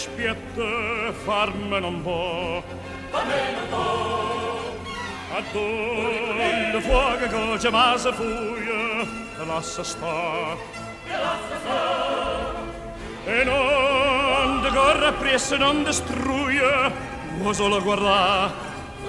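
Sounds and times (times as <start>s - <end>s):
opera singing with vibrato: 0.0s - 19.0s.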